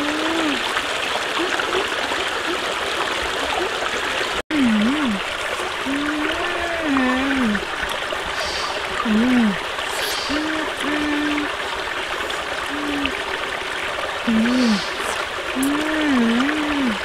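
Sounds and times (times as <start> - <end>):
low dipping tones: 0.0 - 17.0
stream flowing: 0.0 - 17.0.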